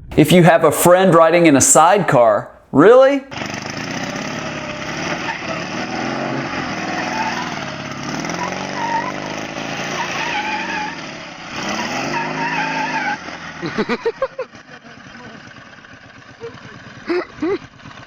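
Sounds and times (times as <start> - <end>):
motorcycle engine revving: 3.3 - 18.0.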